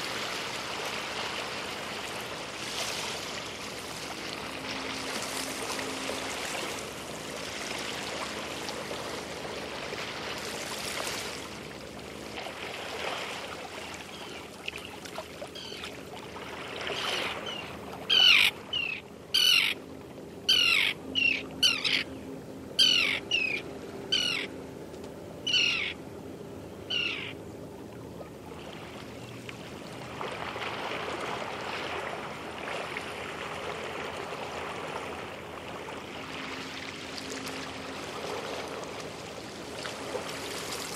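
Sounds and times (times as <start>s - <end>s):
waves lapping against boats: 0.0s - 40.9s.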